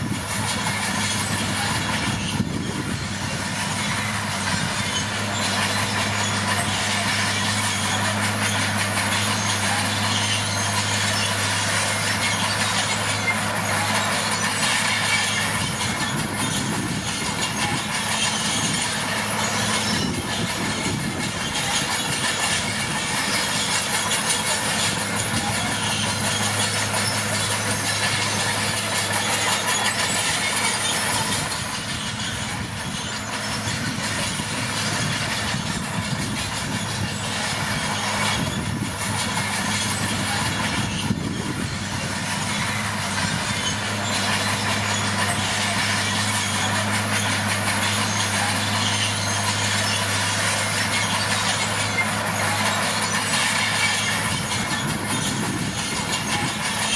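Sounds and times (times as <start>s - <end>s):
bulldozer diesel engine: 0.0s - 56.9s
steel tracks clanking: 0.0s - 56.9s.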